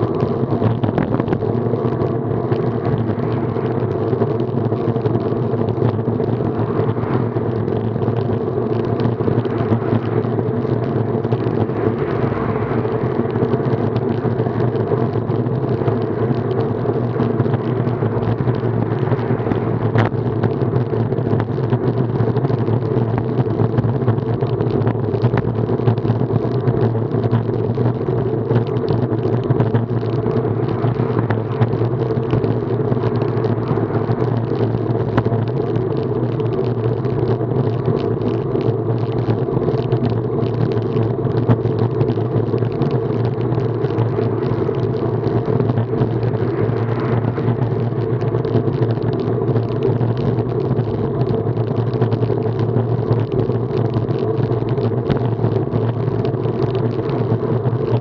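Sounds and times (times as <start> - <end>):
wind rumble and road noise: 0.0 - 58.0.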